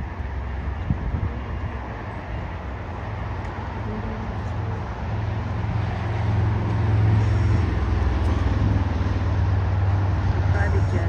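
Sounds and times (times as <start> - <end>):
airport ground traffic: 0.0 - 11.0
distant jet engines: 0.0 - 11.0.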